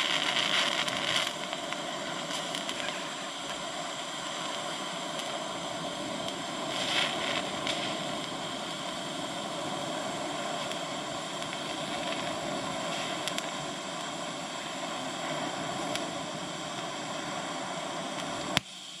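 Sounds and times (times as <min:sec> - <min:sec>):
welding arc crackles: 0:00.0 - 0:19.0
welding arc hiss and buzz: 0:00.0 - 0:19.0.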